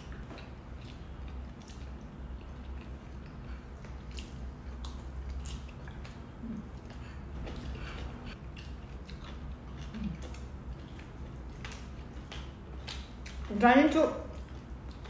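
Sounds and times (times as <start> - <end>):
chewing and wet mouth sounds: 0.0 - 15.0.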